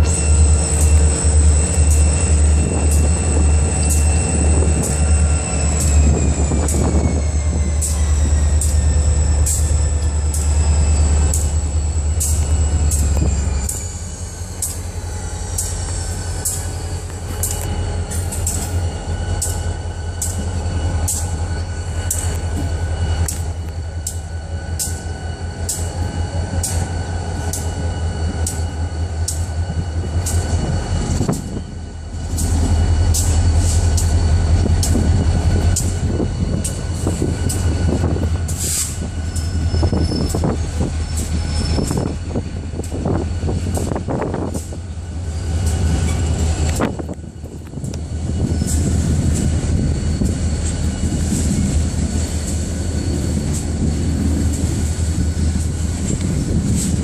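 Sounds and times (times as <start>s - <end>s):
faint high wheel squeal: 0.0s - 57.0s
locomotive engine drone: 0.0s - 57.0s.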